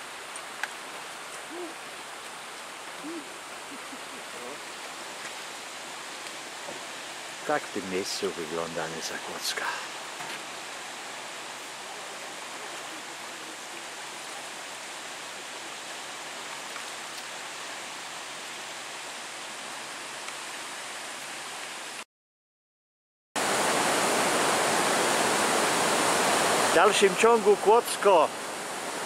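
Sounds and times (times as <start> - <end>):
river water rushing: 0.0 - 22.0, 23.4 - 29.0.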